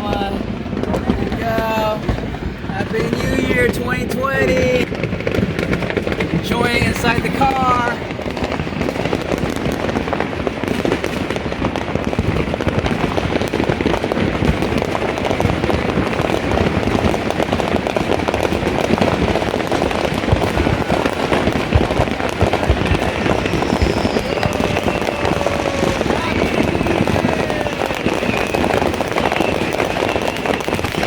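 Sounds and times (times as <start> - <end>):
fireworks and firecrackers popping: 0.0 - 31.0.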